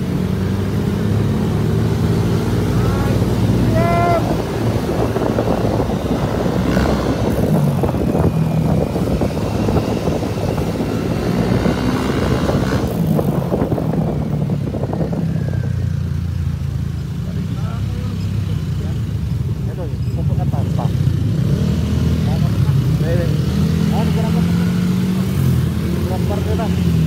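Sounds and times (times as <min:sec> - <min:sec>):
motorcycle engines droning: 0:00.0 - 0:27.0.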